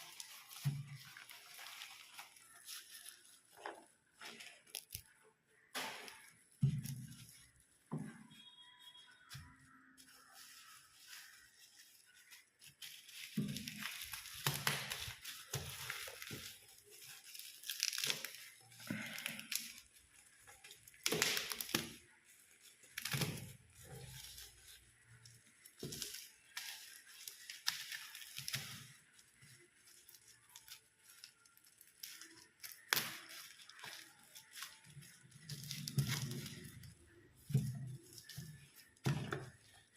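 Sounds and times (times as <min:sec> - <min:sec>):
wrapping tearing and crinkling: 0:00.0 - 0:39.9.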